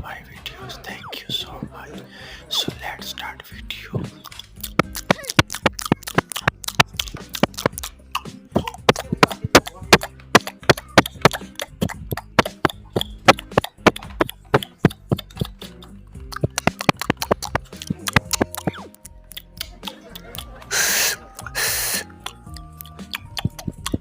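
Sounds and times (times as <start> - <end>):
crunchy chewing and biting: 4.0 - 24.0.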